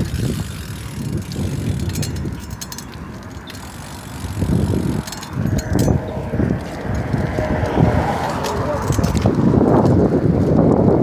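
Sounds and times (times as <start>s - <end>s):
road rumble: 0.0s - 11.0s
wind buffeting microphone: 0.0s - 11.0s.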